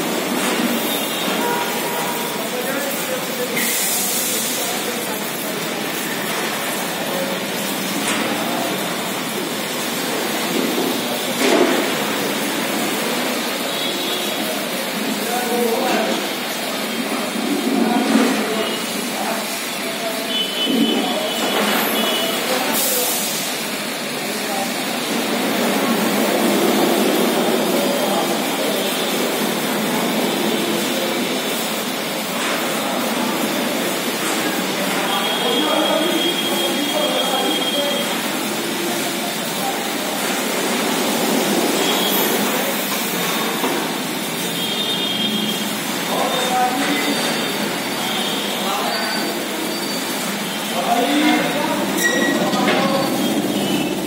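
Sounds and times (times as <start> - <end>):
car wash water jets spraying: 0.0 - 54.0.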